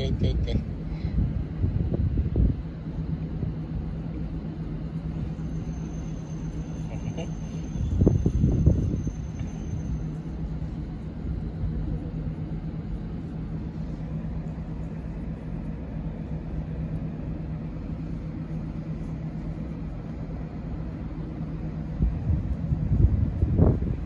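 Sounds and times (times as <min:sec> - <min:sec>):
low rumble: 0:00.0 - 0:24.0
low-pitched hum: 0:00.0 - 0:24.0.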